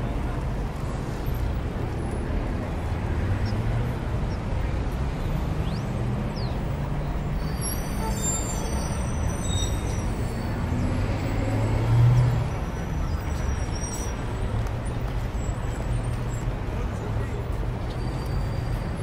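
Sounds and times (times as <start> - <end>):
street traffic rumble: 0.0 - 19.0
vehicle engine: 0.0 - 19.0.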